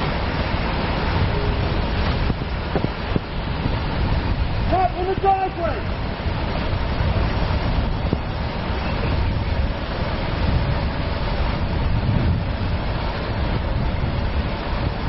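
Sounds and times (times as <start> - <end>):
low rumble of street traffic: 0.0 - 15.0
wind on microphone: 0.0 - 15.0.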